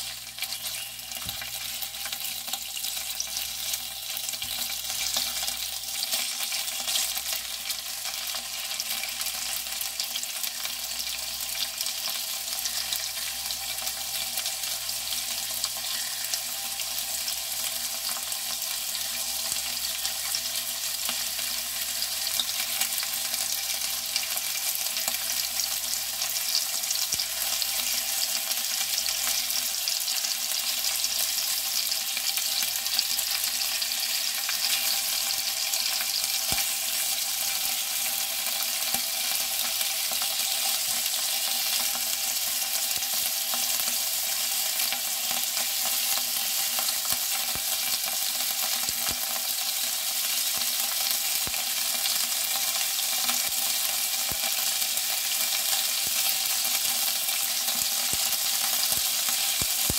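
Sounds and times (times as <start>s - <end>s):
sausages sizzling in a pan: 0.0s - 59.9s.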